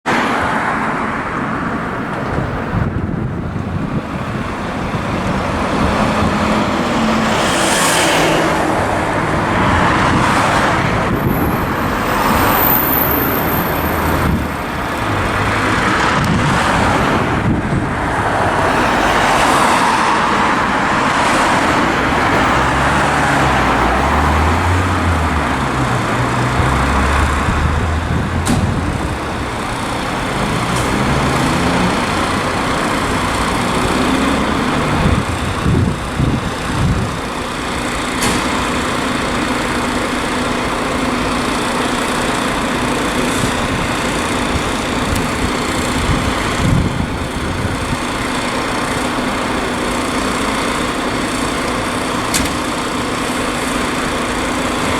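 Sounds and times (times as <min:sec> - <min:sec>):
steady traffic rumble: 0:00.0 - 0:54.9
vehicles driving past: 0:00.1 - 0:54.9.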